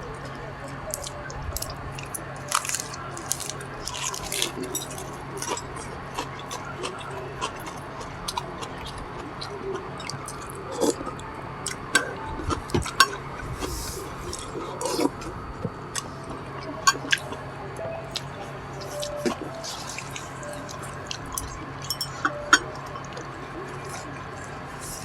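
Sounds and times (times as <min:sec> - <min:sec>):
chewing and wet smacking: 0:00.1 - 0:25.0.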